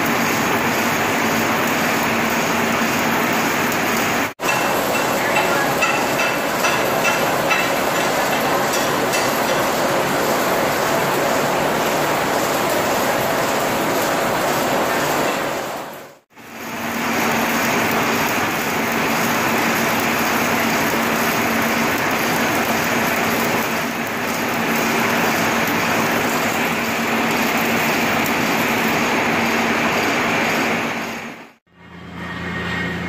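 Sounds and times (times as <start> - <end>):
welding arc crackling: 0.0 - 31.6.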